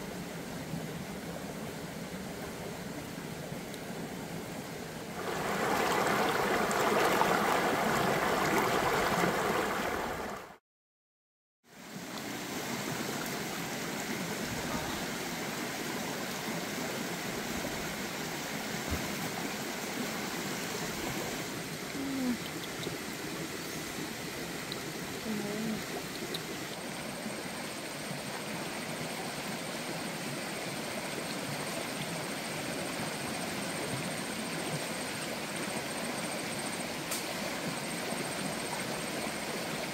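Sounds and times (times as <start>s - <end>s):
stream water rushing: 0.0s - 10.6s, 11.8s - 25.2s, 25.8s - 39.9s.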